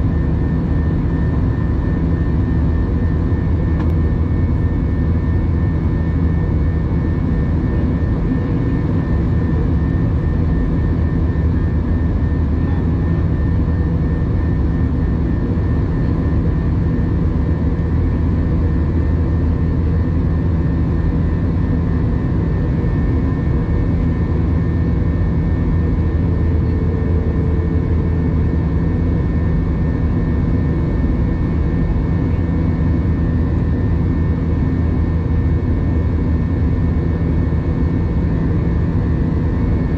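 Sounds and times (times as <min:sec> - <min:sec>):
jet cabin engine rumble: 0:00.0 - 0:39.9.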